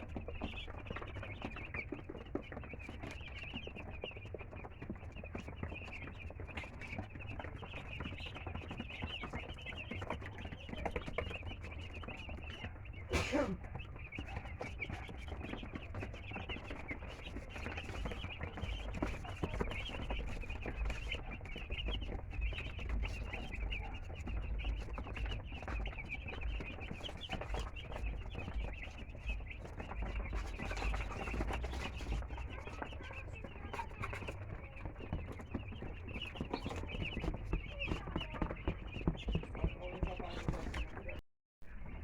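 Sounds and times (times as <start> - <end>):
chickens clucking: 0.0 - 41.2.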